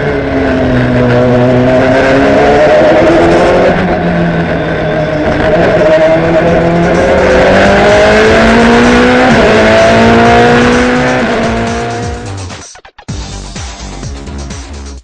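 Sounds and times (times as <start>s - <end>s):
car engine accelerating: 0.0s - 12.4s.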